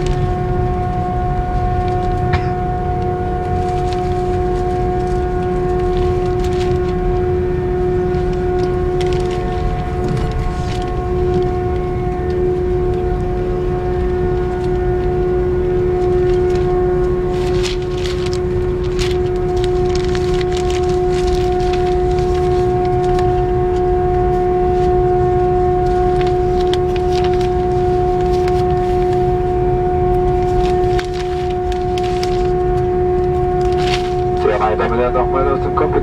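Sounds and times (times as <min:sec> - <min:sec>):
jet engines droning: 0:00.0 - 0:20.4, 0:21.1 - 0:36.0.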